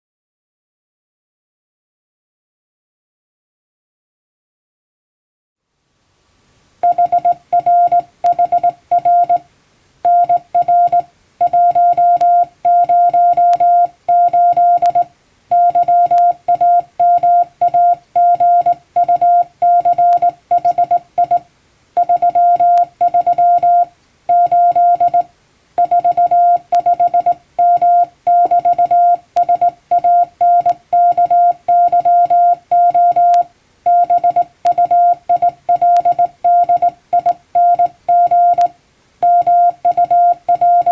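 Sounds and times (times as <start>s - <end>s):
morse code tone: 6.8s - 9.4s, 10.0s - 40.9s.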